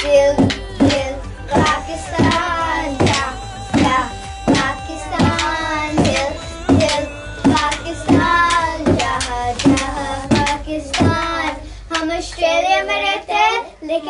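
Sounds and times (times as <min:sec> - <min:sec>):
girls singing together: 0:00.0 - 0:14.0.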